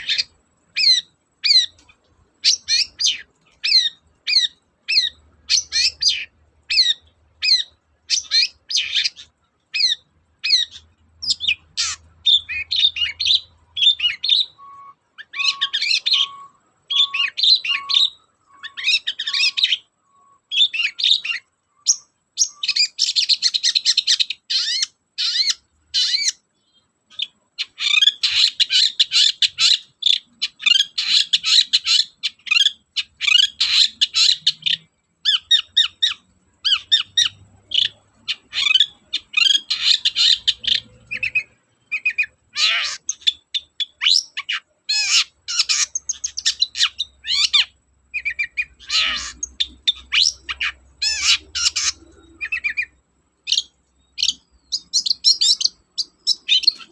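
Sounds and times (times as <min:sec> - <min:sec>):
bird chattering song: 0:00.0 - 0:56.9.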